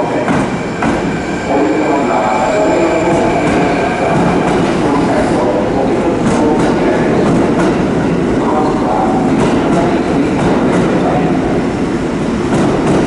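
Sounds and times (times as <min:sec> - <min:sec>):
rail clatter: 0:00.0 - 0:13.0.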